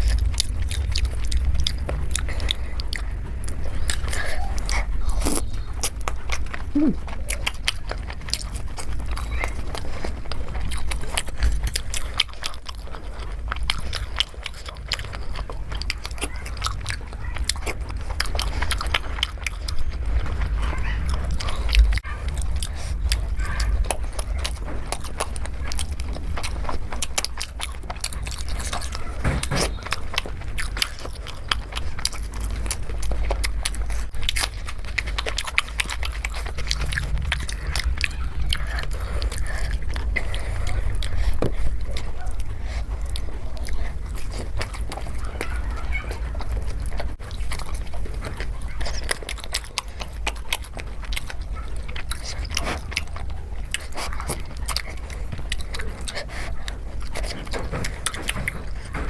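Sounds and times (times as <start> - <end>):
person biting and chewing food: 0.0 - 59.0
steady low hum: 0.0 - 59.0.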